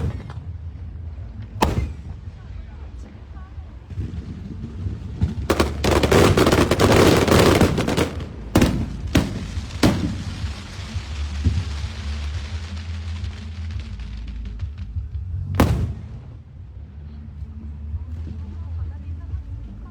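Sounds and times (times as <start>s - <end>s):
fireworks crackling and banging: 0.0s - 16.8s.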